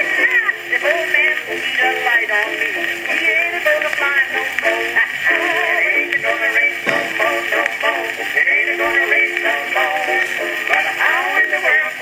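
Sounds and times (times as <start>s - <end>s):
man singing on old record: 0.0s - 12.0s
record surface hiss: 0.0s - 12.0s.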